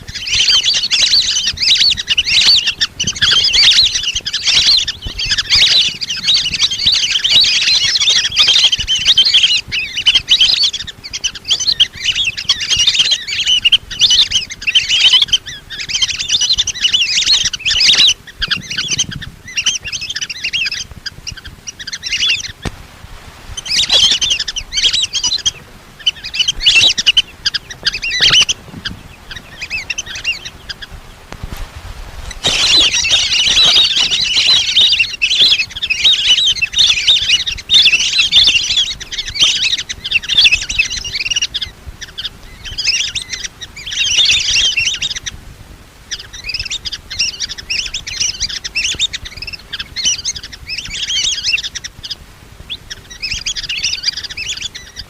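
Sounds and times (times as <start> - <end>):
ducks whistling chirps: 0.0 - 22.8, 23.5 - 45.4, 46.0 - 55.0.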